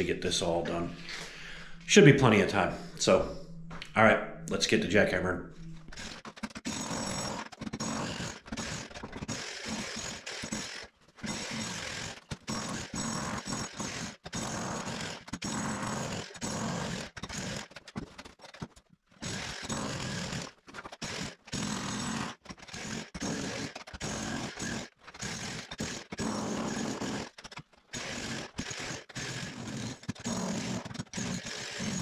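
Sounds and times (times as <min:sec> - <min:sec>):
jackhammer chiselling concrete: 0:05.9 - 0:32.0.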